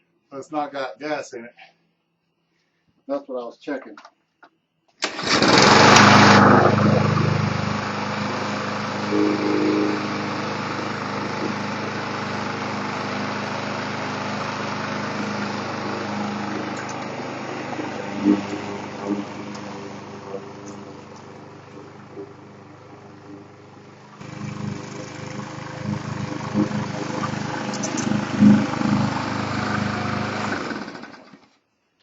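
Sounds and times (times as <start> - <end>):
lawn mower engine running: 5.0 - 31.6.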